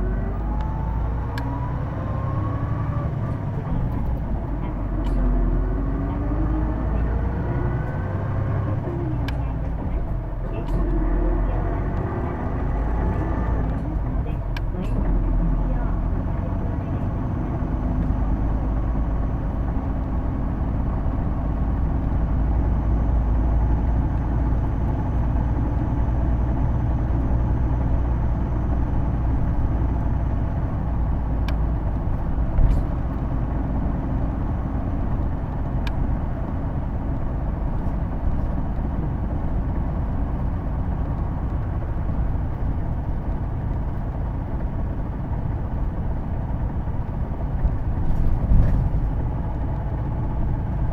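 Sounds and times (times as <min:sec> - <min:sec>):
bus engine and transmission drone: 0:00.0 - 0:50.9.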